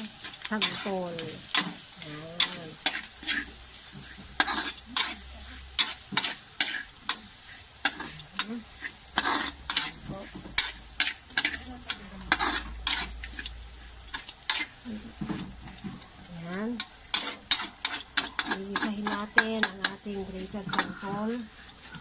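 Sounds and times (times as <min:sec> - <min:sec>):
metal spatula scraping a wok: 0:00.0 - 0:15.8, 0:16.6 - 0:22.0
frying sizzle: 0:00.0 - 0:22.0.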